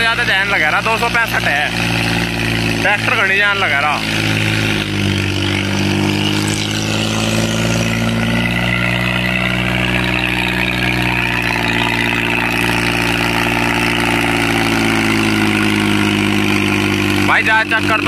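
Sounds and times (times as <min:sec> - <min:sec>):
tractor diesel engine labouring: 0:00.0 - 0:18.0.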